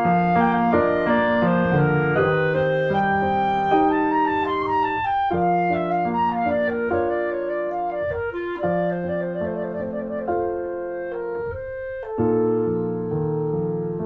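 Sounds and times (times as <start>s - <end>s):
instrumental background music: 0.0s - 14.0s.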